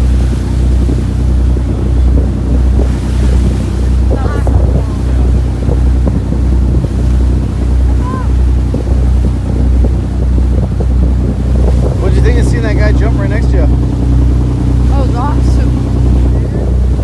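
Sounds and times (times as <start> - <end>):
boat engine hum: 0.0 - 17.0
water rushing past hull: 0.0 - 17.0
wind buffeting microphone: 0.0 - 17.0.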